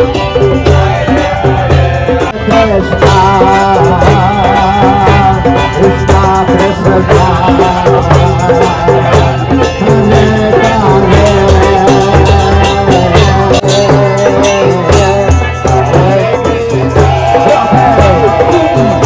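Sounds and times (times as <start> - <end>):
barrel drum beating: 0.0 - 19.0
harmonium chords: 0.0 - 19.0
man singing with vibrato: 0.0 - 19.0.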